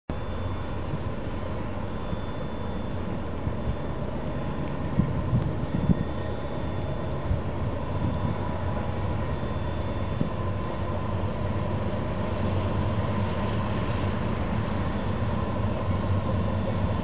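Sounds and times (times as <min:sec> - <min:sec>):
distant freight train rumble: 0:00.1 - 0:17.0.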